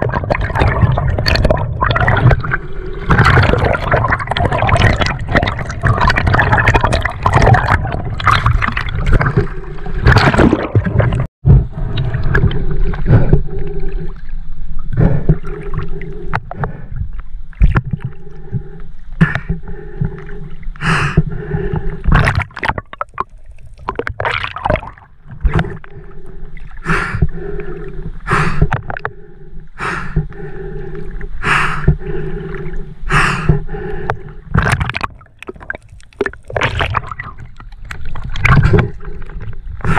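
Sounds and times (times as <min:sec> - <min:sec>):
water lapping and gurgling: 0:00.0 - 0:39.9
water rushing and bubbling: 0:00.0 - 0:39.9.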